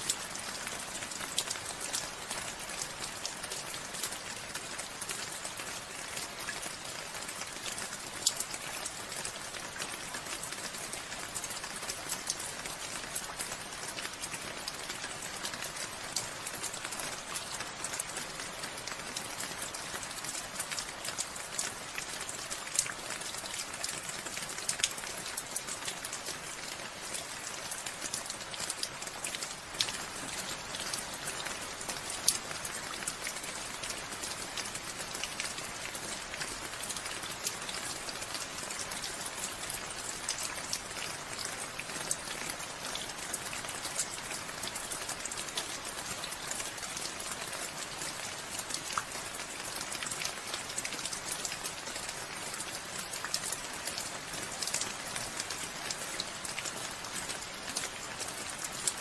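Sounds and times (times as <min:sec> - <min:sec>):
rain drops pattering: 0:00.0 - 0:59.0.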